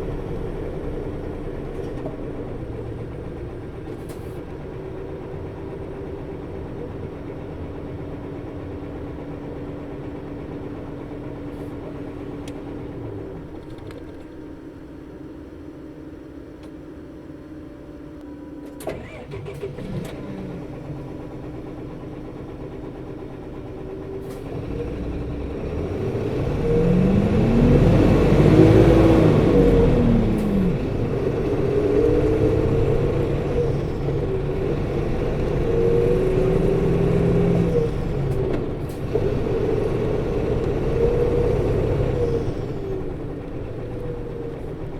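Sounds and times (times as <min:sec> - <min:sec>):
bus diesel engine humming: 0:00.0 - 0:44.9.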